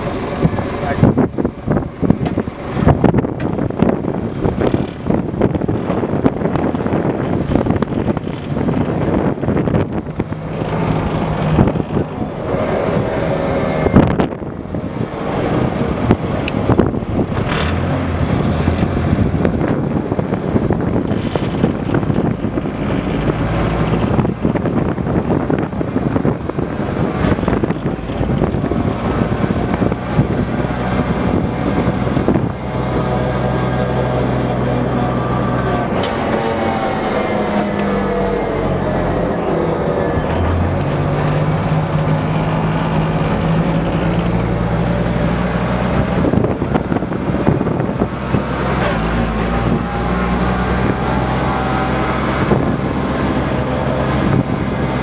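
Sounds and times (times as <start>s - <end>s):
diesel engine running: 0.0s - 55.0s
road noise rumble: 0.0s - 55.0s.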